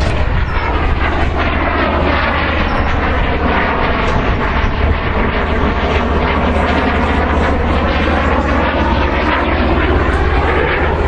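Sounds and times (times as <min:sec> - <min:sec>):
airplane engine: 0:00.0 - 0:11.0
heavy low rumble: 0:00.0 - 0:11.0.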